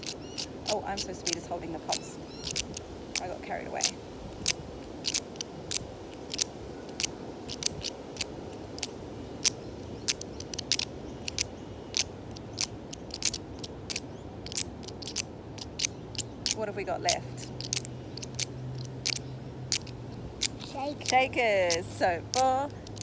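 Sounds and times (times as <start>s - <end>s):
percussive clicks and rasps: 0.0s - 23.0s.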